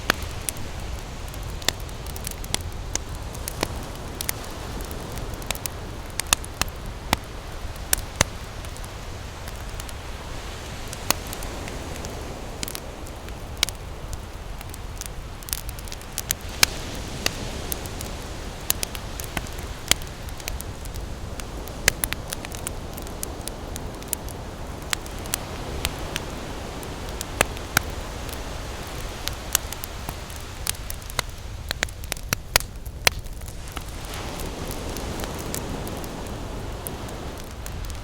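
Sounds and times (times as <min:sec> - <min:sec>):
ocean surf: 0:00.0 - 0:32.1, 0:33.5 - 0:38.0
campfire crackling and popping: 0:00.0 - 0:38.0.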